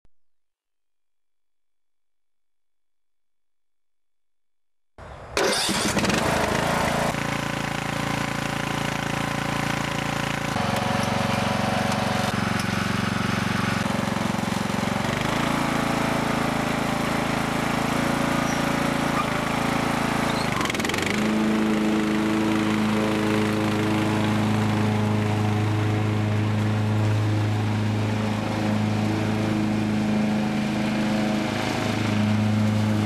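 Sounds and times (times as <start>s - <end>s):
lawn tractor engine running: 5.4s - 33.0s.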